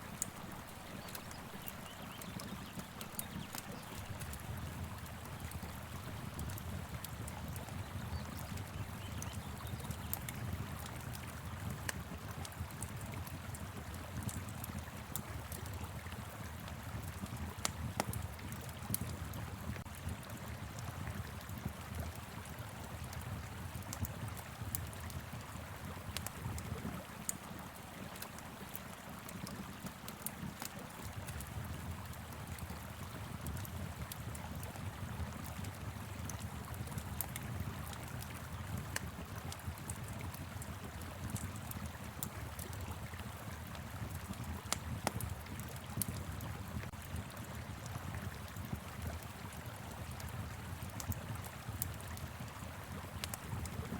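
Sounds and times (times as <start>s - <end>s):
wood fire crackling: 0.0s - 16.1s, 23.0s - 53.9s.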